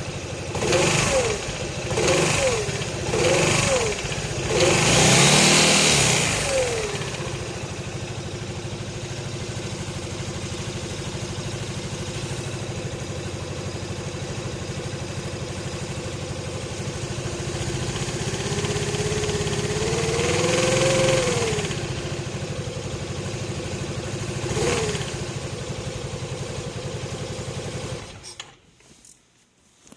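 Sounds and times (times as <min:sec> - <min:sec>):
scooter engine idling with whine: 0:00.0 - 0:28.7.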